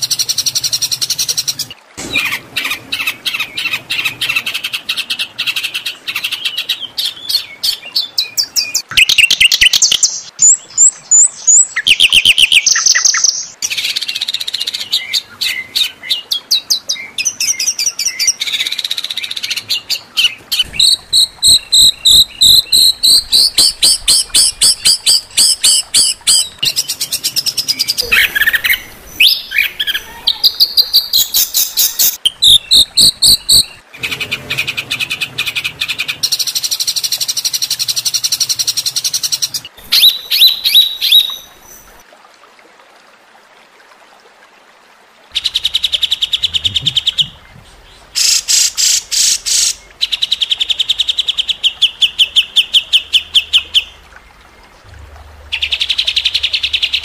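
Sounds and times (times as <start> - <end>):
songbird chirps and trills: 0.0 - 42.0, 45.4 - 57.0.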